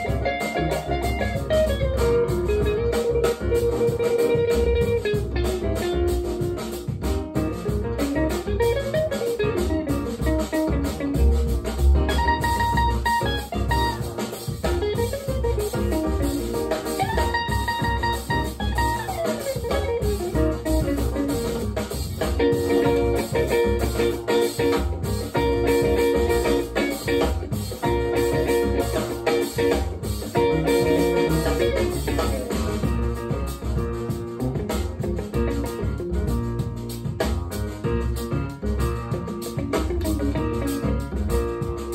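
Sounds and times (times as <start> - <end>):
guitar and drum music on loudspeakers: 0.0 - 41.9.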